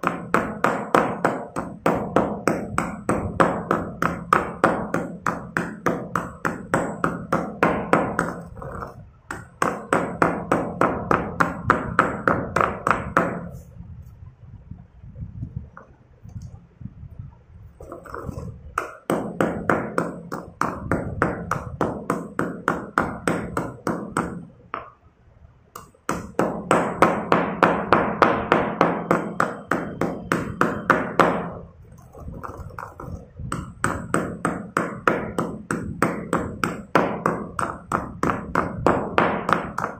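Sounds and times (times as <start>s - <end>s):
pestle pounding in stone mortar: 0.0s - 13.6s, 17.8s - 24.9s, 25.8s - 39.9s.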